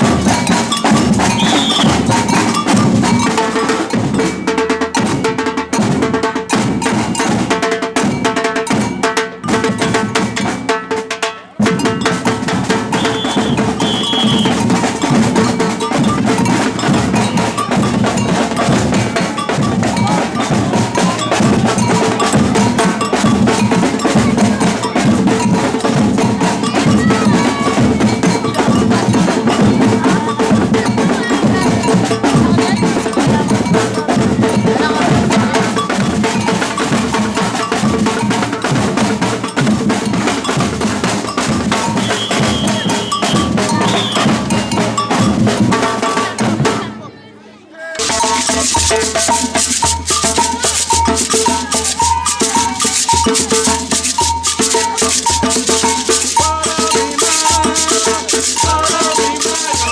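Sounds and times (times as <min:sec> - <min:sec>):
ringing metal bell: 0:00.0 - 0:05.3, 0:11.7 - 0:46.8, 0:48.0 - 0:59.9
samba drums: 0:00.0 - 0:59.9.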